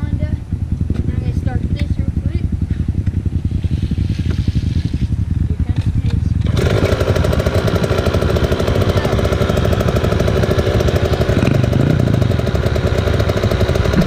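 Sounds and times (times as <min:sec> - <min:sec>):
another motorcycle engine running: 0:00.0 - 0:14.0
two-stroke motorcycle engine buzzing: 0:00.0 - 0:14.0.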